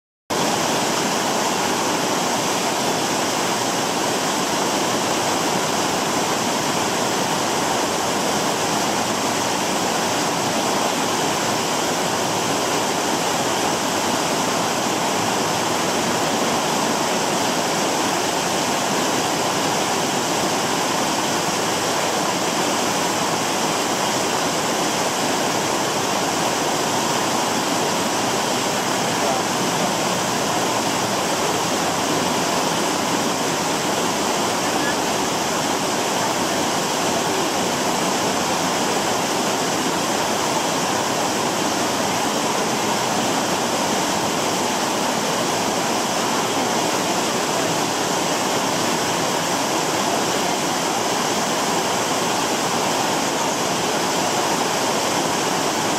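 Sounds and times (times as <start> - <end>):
waterfall splashing over stones: 0.3 - 55.9.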